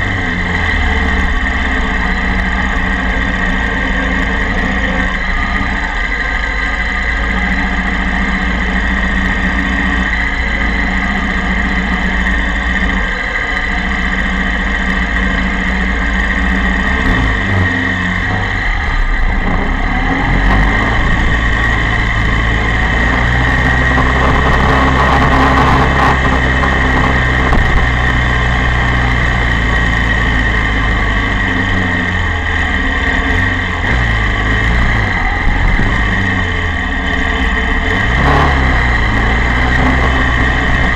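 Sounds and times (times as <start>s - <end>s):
motorcycle engine at low revs: 0.0s - 40.9s.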